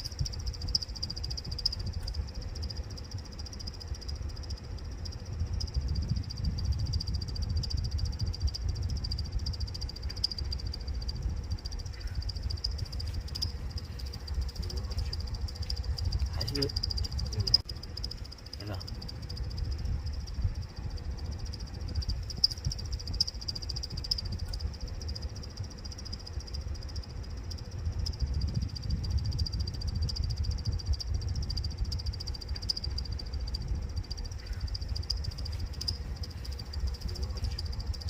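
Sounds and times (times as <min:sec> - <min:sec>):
low airflow rumble: 0:00.0 - 0:38.0.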